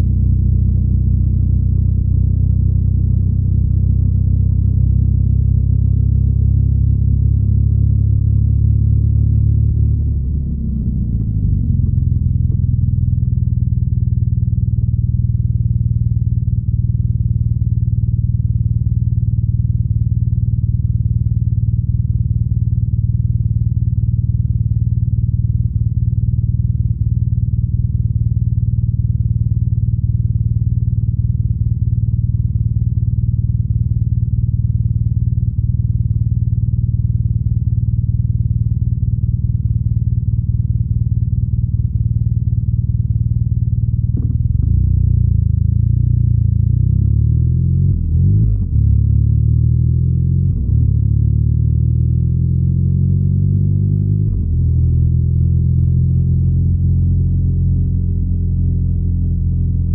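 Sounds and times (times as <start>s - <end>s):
motorcycle engine low rumble: 0.0s - 59.9s.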